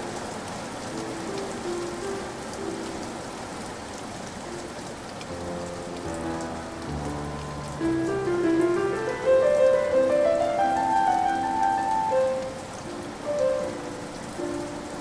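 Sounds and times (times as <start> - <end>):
raindrops pattering: 0.0 - 15.0
soft music of held notes: 0.0 - 15.0
steady rain: 0.0 - 15.0.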